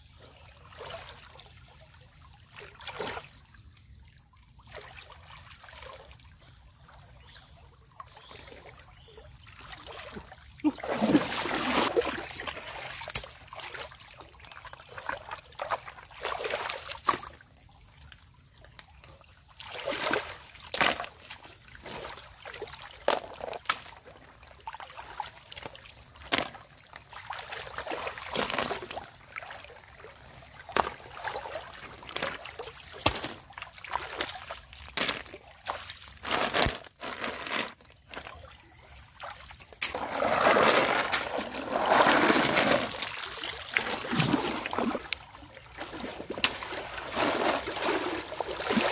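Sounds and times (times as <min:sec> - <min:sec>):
trickling water: 0:00.0 - 0:48.9
water splashing in stream: 0:00.4 - 0:03.6, 0:04.5 - 0:48.9.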